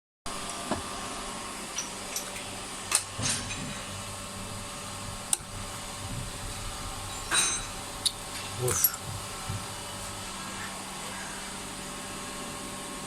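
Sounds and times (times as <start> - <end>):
steady low hum: 0.3 - 13.0.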